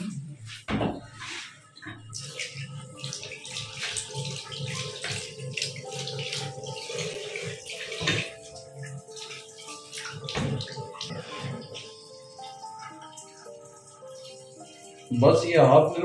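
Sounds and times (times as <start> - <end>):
tap water splashing into sink: 1.8 - 15.1.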